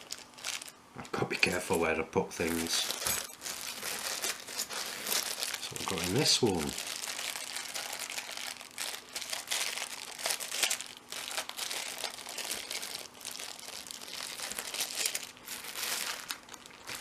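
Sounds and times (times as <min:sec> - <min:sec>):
packaging crinkling: 0:00.0 - 0:00.8, 0:02.4 - 0:17.0.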